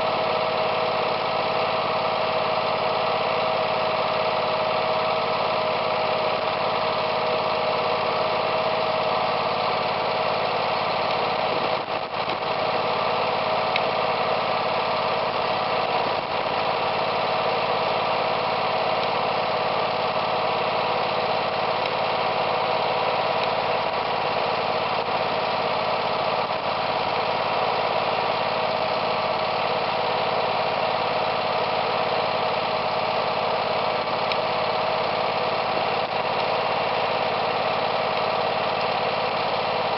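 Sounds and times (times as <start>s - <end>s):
garden tractor engine idling: 0.0s - 39.9s.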